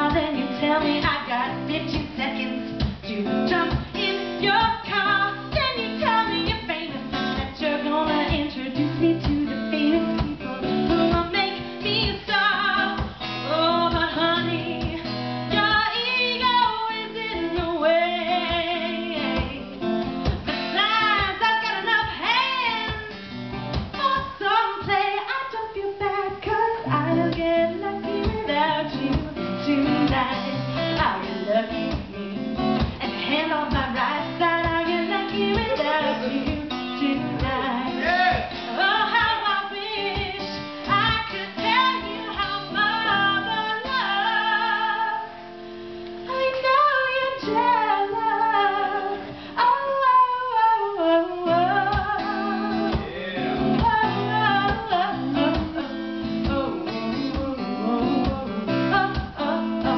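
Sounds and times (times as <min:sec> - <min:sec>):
woman singing: 0:00.0 - 0:45.5, 0:46.2 - 0:59.9
guitar accompaniment: 0:00.0 - 0:59.9.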